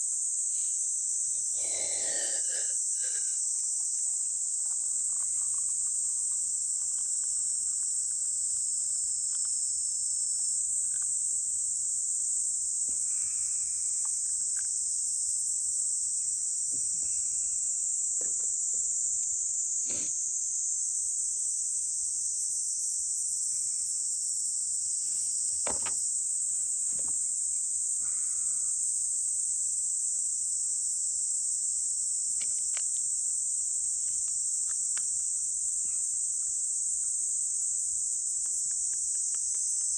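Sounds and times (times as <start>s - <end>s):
insect chorus: 0.0s - 39.9s
short insect calls: 0.0s - 39.9s.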